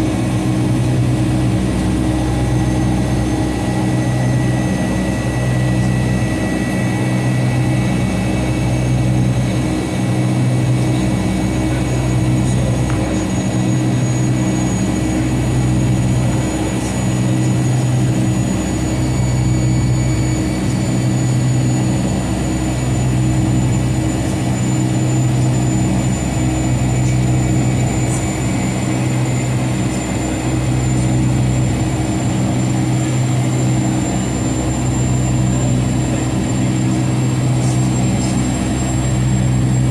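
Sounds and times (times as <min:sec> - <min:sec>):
aircraft cabin machinery drone: 0:00.0 - 0:39.9
pulsing low hum: 0:00.0 - 0:39.9.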